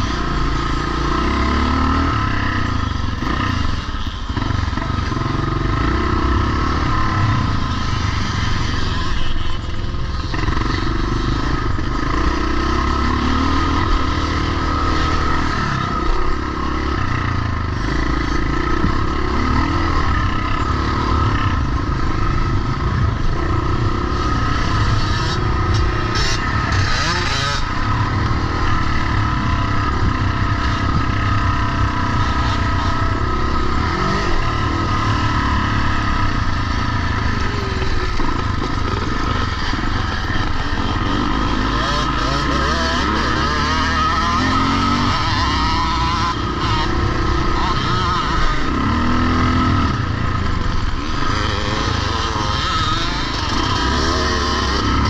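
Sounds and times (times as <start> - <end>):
motocross motorcycles revving: 0.0 - 55.0.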